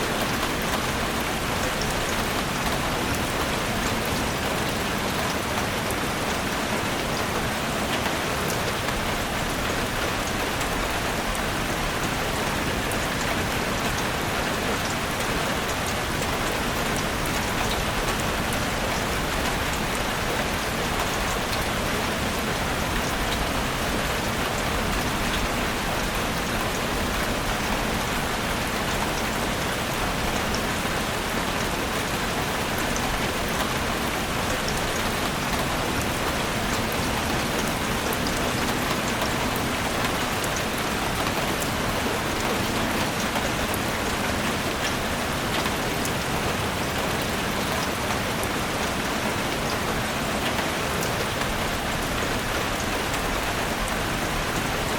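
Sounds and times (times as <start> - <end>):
rain falling on forest: 0.0 - 54.9.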